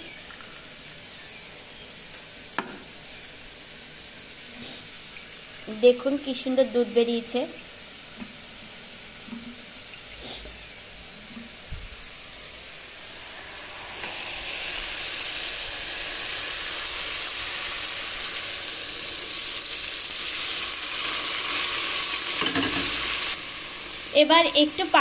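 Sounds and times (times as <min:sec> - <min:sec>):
curry sizzling in a pan: 0:00.0 - 0:25.0.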